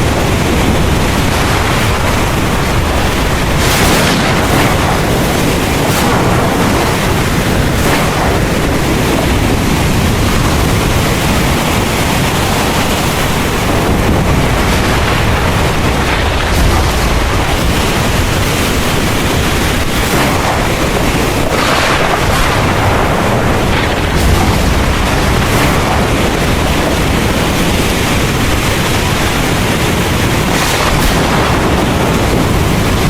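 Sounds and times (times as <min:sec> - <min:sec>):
heavy rain: 0:00.0 - 0:33.0
rolling thunder: 0:00.0 - 0:33.0.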